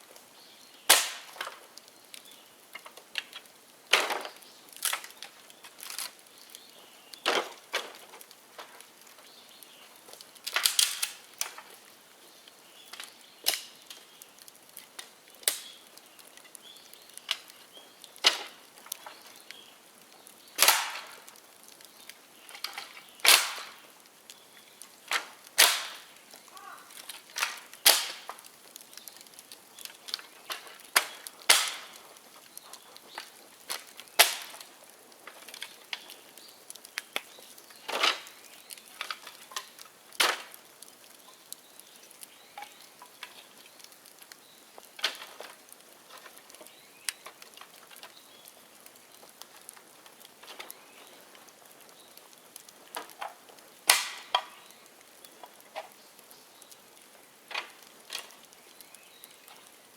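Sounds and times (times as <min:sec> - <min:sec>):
bamboo popping in fire: 0:00.0 - 0:59.9
bonfire crackling: 0:00.0 - 0:59.9.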